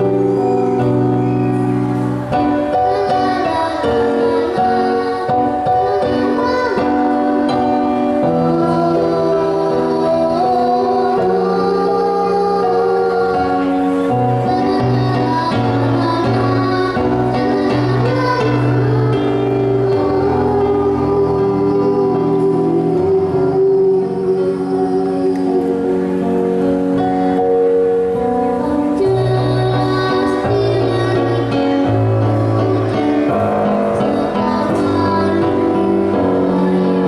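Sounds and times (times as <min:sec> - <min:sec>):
girl singing: 0:00.0 - 0:37.0
instrumental accompaniment: 0:00.0 - 0:37.0.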